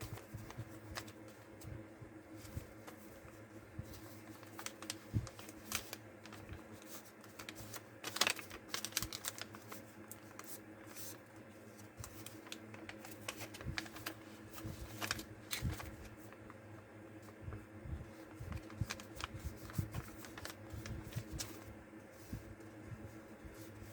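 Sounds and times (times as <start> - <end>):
low steady hum: 0.0 - 23.9
paper crackling: 0.0 - 23.9.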